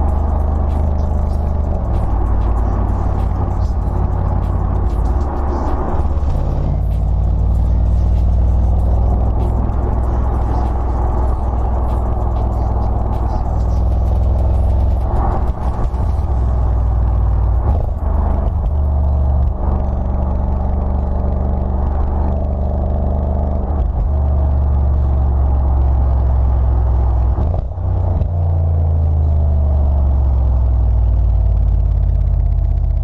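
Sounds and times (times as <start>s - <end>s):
deep car exhaust drone: 0.0s - 33.0s.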